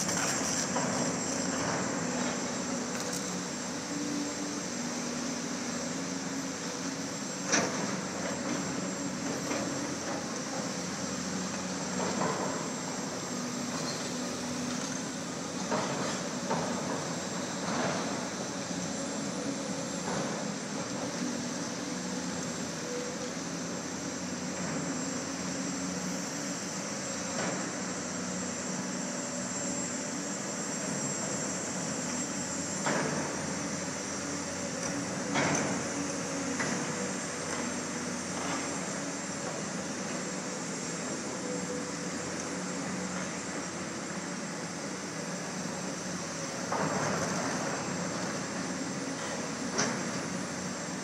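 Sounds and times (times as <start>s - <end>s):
excavator engine running: 0.0s - 51.0s.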